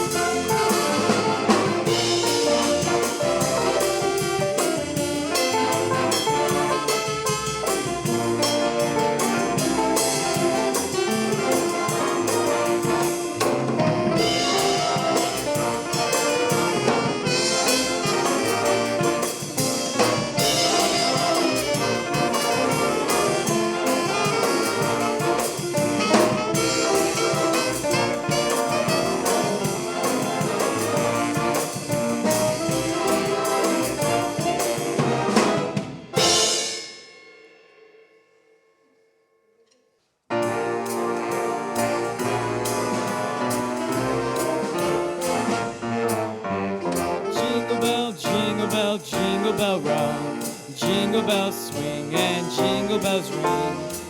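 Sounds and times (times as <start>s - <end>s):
big band jazz with brass: 0.0s - 37.0s, 40.3s - 54.0s.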